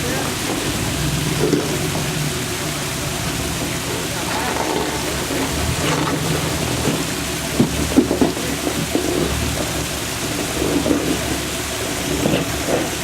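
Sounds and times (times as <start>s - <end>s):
off-road vehicle engine running low: 0.0s - 13.0s.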